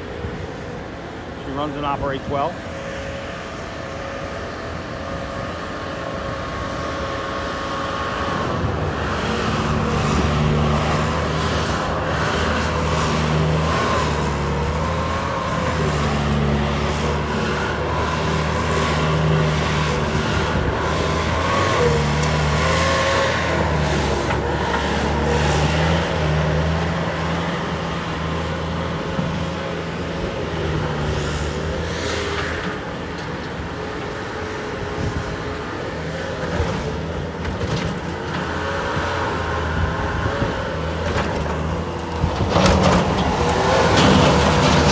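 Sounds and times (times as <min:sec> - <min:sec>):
loader diesel engine running: 0:00.0 - 0:44.9.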